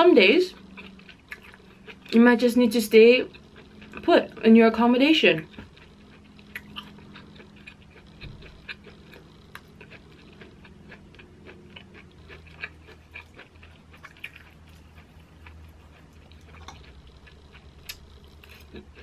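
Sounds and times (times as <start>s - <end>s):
wet chewing sounds: 0.5s - 19.0s.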